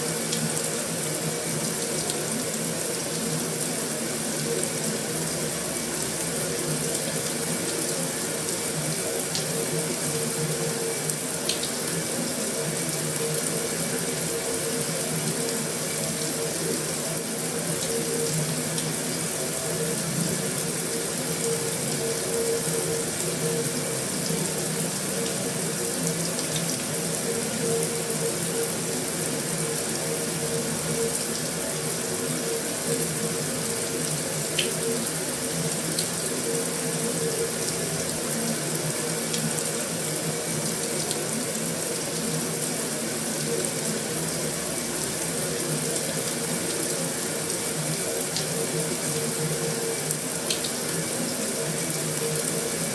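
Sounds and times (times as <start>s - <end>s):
heavy rain on a metal roof: 0.0s - 52.9s.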